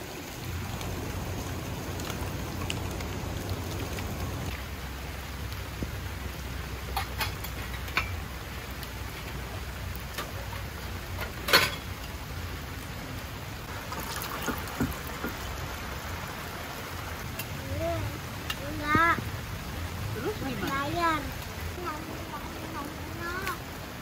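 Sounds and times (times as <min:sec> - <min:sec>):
rain hiss: 0:00.0 - 0:24.0
raindrops ticking: 0:00.0 - 0:24.0.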